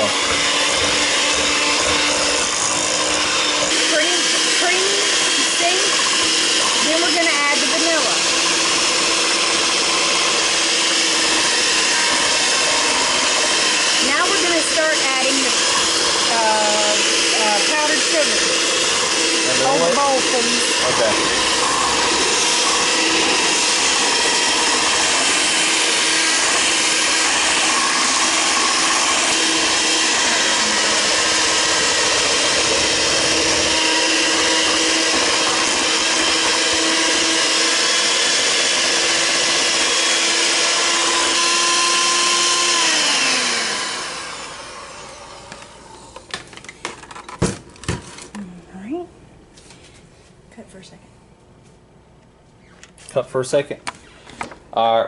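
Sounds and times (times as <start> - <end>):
electric mixer motor whining: 0.0 - 48.0.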